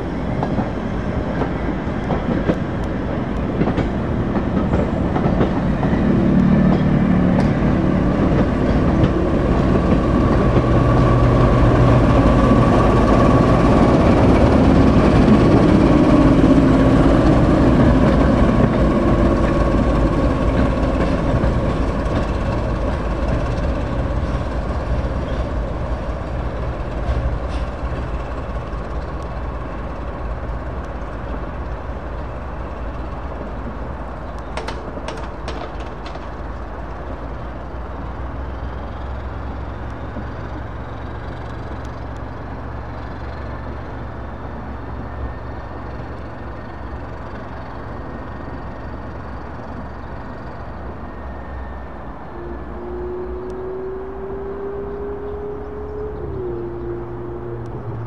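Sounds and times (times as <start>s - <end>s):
train wheels clattering on track: 0.0s - 52.6s
diesel locomotive engine running: 0.0s - 58.0s.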